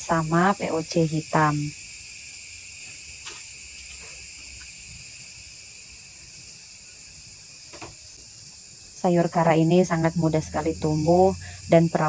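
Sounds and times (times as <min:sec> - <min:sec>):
insects shrilling in chorus: 0:00.0 - 0:12.0.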